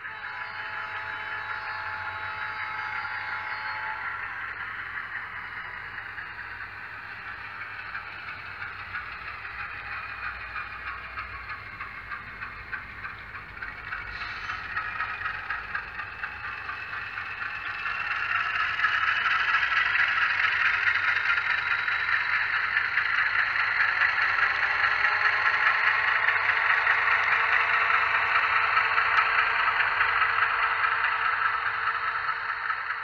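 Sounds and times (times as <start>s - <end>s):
model locomotive diesel sound: 0.0s - 33.0s.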